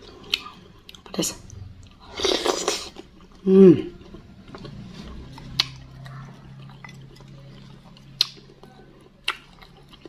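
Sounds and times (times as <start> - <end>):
wet chewing clicks: 0.2 - 10.0.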